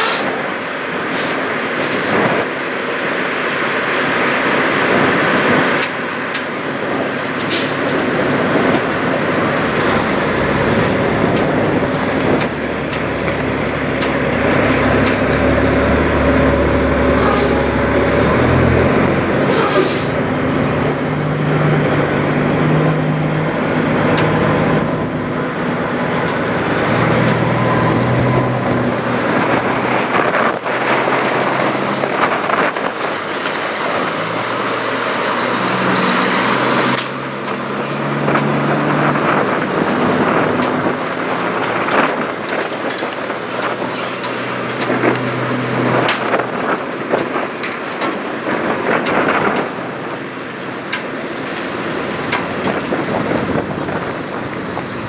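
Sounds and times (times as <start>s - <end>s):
diesel truck engines humming: 0.0s - 55.0s
traffic noise: 0.0s - 55.0s.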